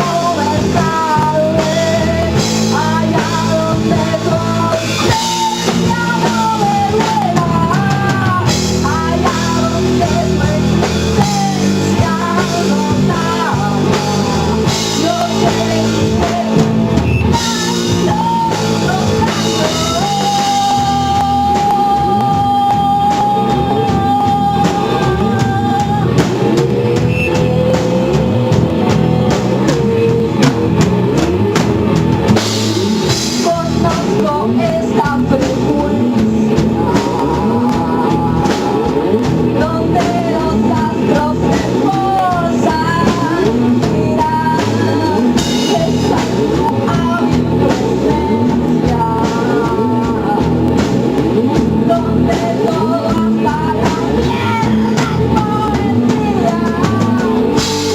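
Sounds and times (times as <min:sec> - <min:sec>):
person singing: 0:00.0 - 0:57.9
rock band playing: 0:00.0 - 0:57.9.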